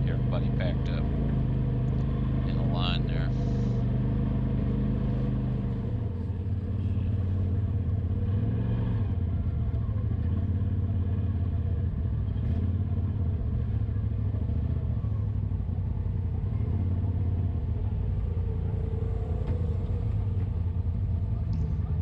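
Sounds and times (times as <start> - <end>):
vehicle engine low hum: 0.0 - 22.0.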